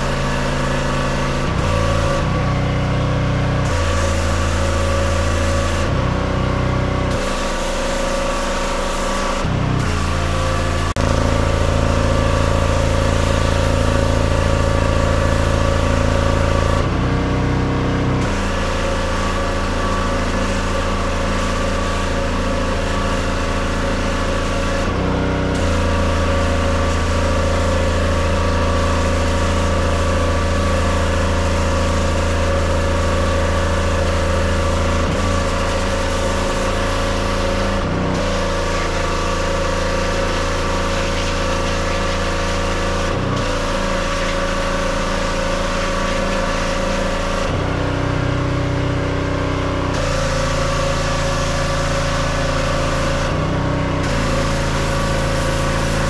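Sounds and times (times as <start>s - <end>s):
pressure washer engine: 0.0s - 56.0s.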